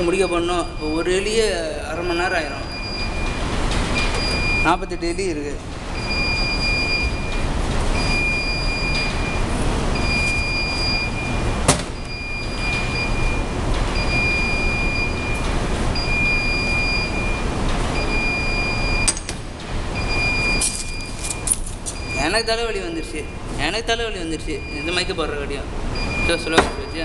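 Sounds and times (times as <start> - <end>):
high steady beeps: 0.0 - 19.2, 20.0 - 27.0.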